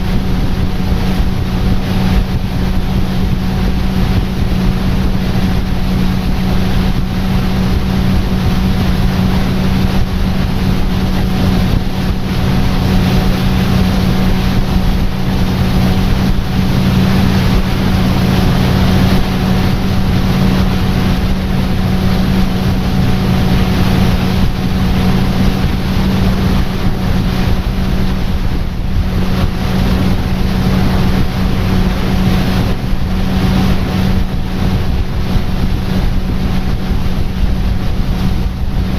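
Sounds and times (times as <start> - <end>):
boat motor droning: 0.0 - 38.9
wind and water rushing: 0.0 - 38.9.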